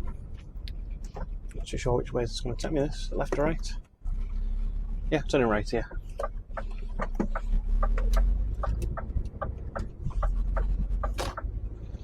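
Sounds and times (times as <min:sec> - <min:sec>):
lorry engine rumbling: 0:00.0 - 0:12.0.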